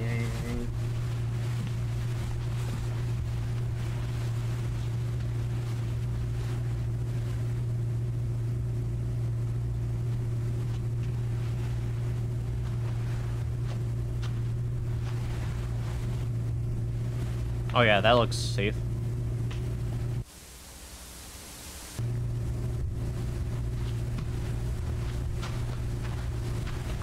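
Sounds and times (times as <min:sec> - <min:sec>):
fluorescent lights humming: 0:00.0 - 0:27.0.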